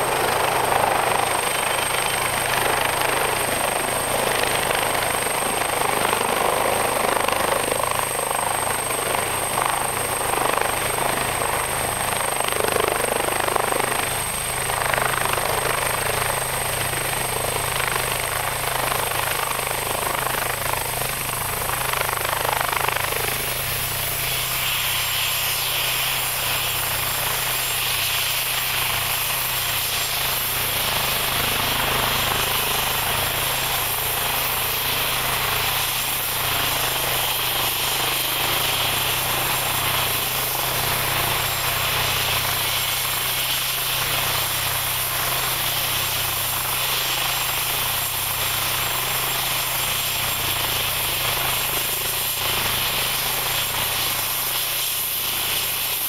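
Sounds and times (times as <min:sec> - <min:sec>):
helicopter engines and rotors running: 0:00.0 - 0:56.0.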